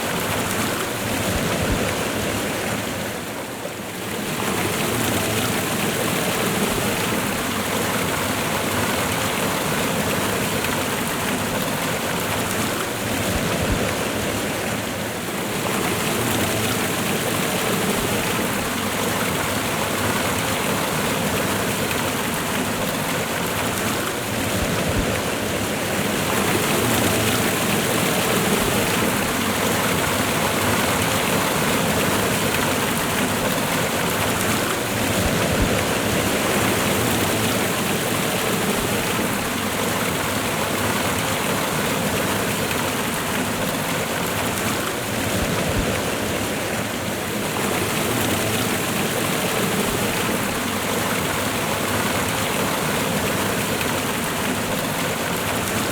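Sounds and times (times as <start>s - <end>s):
fast-running river water: 0.0s - 55.9s
waterfall: 0.0s - 55.9s.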